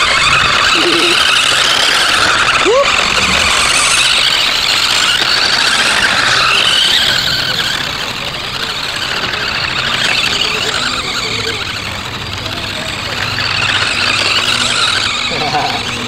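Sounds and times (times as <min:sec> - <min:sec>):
toy electric motor whining: 0:00.0 - 0:16.0.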